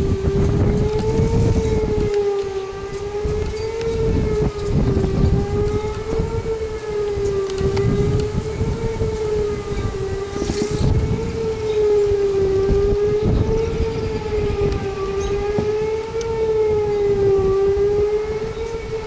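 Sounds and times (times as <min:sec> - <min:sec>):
heavy low rumble: 0:00.0 - 0:17.6
warning siren wavering tone: 0:00.0 - 0:19.0.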